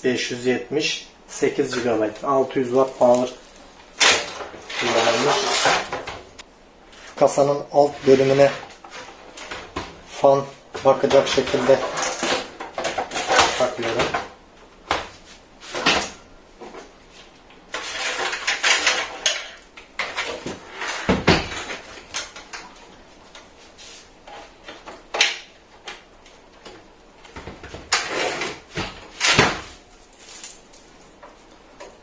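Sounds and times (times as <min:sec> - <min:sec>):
cables rustling and scraping: 0:01.3 - 0:14.3, 0:15.2 - 0:25.0, 0:25.8 - 0:32.0.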